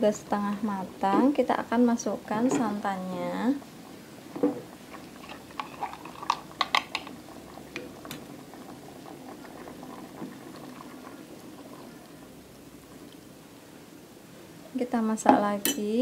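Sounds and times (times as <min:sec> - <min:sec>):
broth boiling and bubbling: 0:00.0 - 0:15.2.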